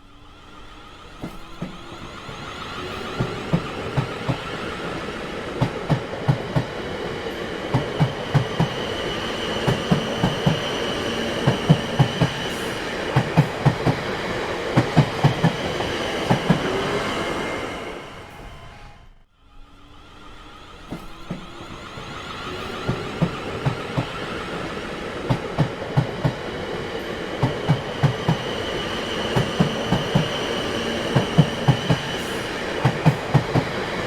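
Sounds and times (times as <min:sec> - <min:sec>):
train rumble with high whine: 0:00.0 - 0:34.0
train wheels clattering over joints: 0:01.2 - 0:17.3, 0:20.9 - 0:34.0.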